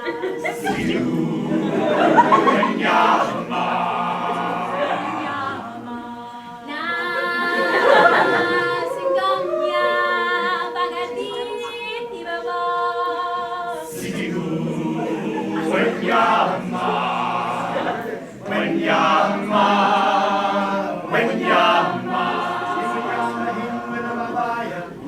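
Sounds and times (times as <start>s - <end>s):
vocal group singing in harmony: 0.0s - 25.0s.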